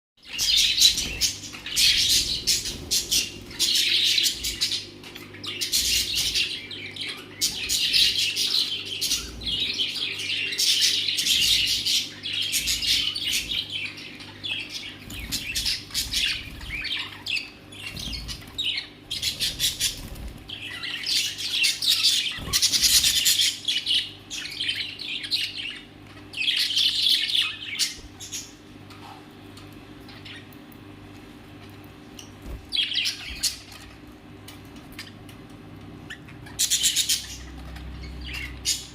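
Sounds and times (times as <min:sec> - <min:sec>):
small birds chirping and squawking: 0:00.2 - 0:38.9.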